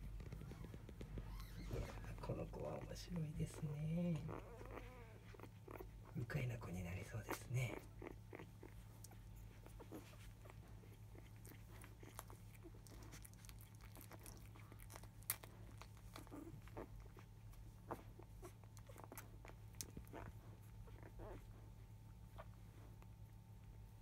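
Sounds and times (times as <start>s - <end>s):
soft rustles: 0.0s - 24.0s.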